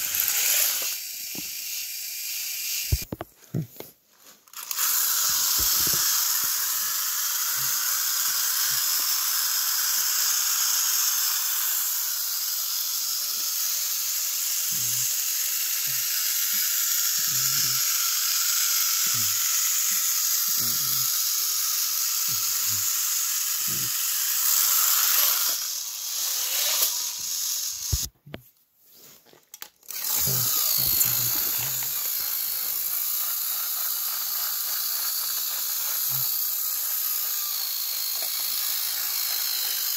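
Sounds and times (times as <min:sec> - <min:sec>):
toy train whirring: 0:00.0 - 0:03.2, 0:04.2 - 0:28.1, 0:29.3 - 0:39.9.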